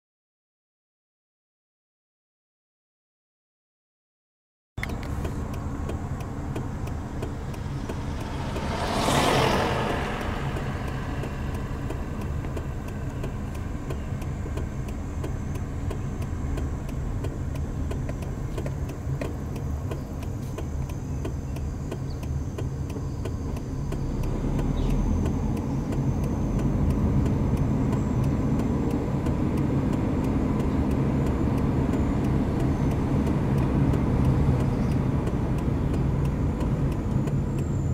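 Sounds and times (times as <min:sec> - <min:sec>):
vehicle driving rumble: 0:04.8 - 0:37.9
vehicle passing by: 0:05.1 - 0:15.9, 0:16.8 - 0:37.9.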